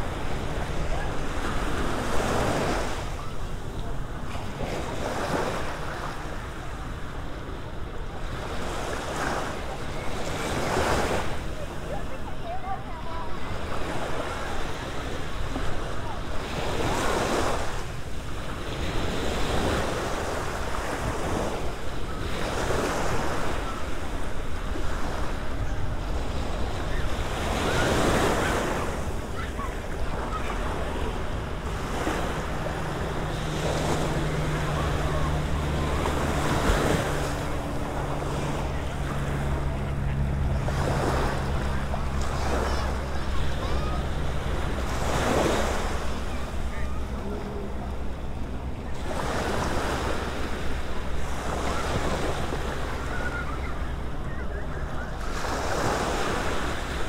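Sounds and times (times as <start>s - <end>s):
small waves breaking on shore: 0.0s - 57.0s.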